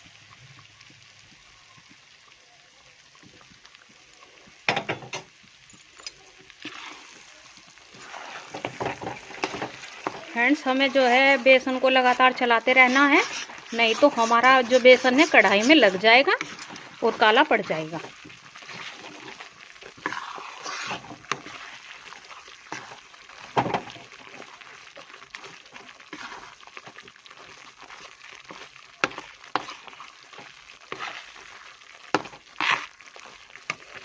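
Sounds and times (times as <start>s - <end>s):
flour sizzling in a pan: 0.0s - 34.0s
spoon scraping and knocking a pan: 4.6s - 7.2s, 7.9s - 24.6s, 25.3s - 34.0s.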